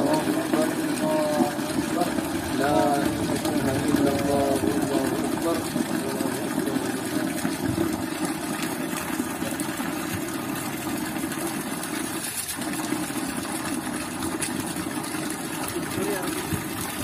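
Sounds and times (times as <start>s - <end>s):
water pouring and splashing: 0.0s - 17.0s
water pump motor running: 0.0s - 17.0s.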